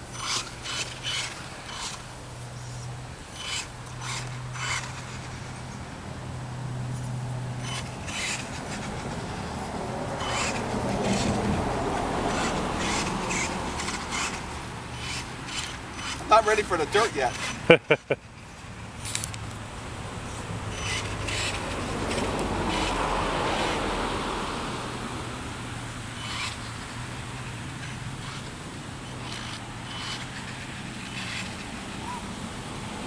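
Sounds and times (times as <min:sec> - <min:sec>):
tyres scraping over hard ground: 0:00.0 - 0:33.0.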